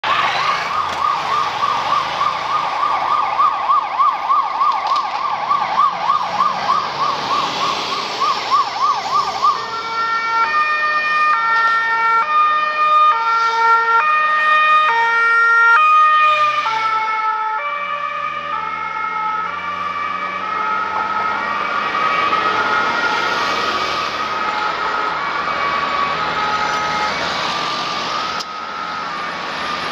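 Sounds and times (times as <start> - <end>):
ambulance sirens wailing: 0.0 - 29.9
road traffic: 0.0 - 29.9.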